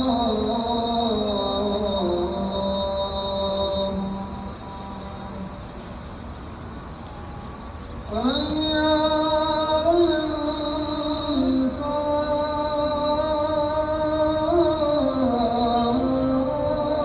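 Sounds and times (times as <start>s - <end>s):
man reciting melodically: 0.0s - 5.7s, 8.0s - 17.0s.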